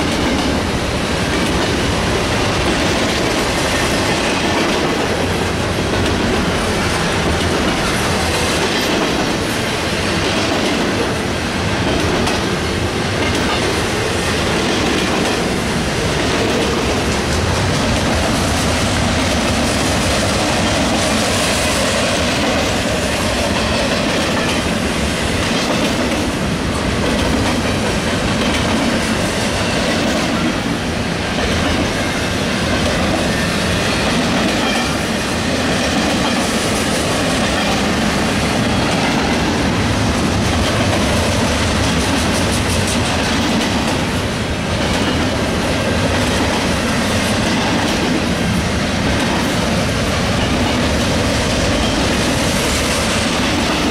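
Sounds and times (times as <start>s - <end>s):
train wheels rumbling and rattling: 0.0s - 53.9s.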